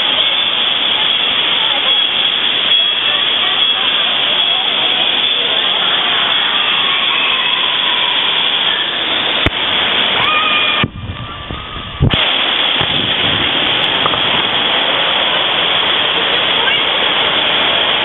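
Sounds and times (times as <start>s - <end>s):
water pouring and splashing: 0.0s - 18.0s.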